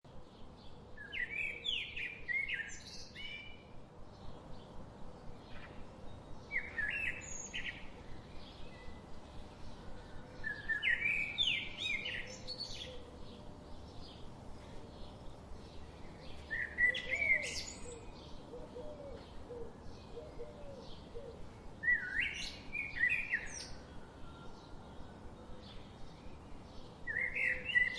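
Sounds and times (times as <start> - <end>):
birds chirping: 4.1 - 27.9.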